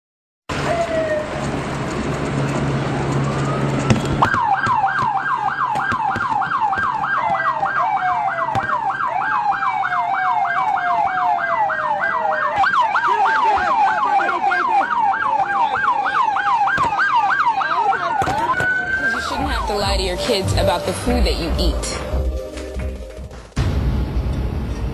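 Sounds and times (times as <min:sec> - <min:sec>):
second slower siren: 0:00.5 - 0:01.6, 0:02.8 - 0:23.0
emergency vehicle siren: 0:00.5 - 0:23.4.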